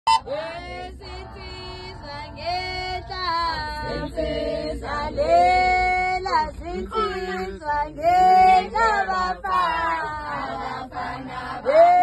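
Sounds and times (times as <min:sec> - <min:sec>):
women singing unaccompanied: 0:00.2 - 0:12.0.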